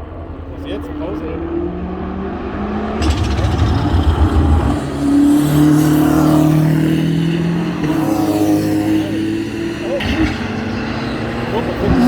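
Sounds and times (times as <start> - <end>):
race cars passing by: 0.0 - 12.0.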